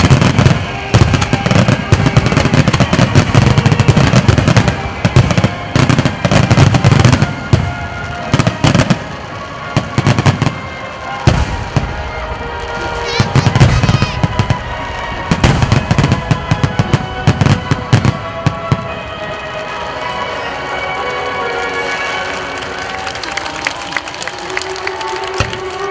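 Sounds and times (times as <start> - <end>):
music: 0.0 - 25.9.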